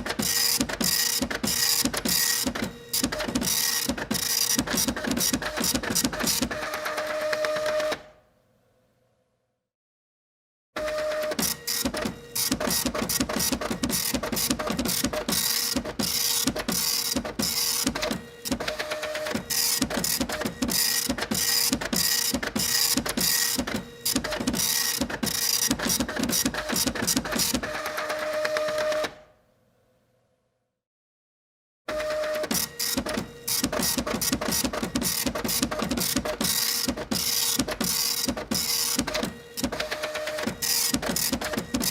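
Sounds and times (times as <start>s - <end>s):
printer clicking and whirring: 0.0s - 8.2s, 10.8s - 29.3s, 31.9s - 41.9s.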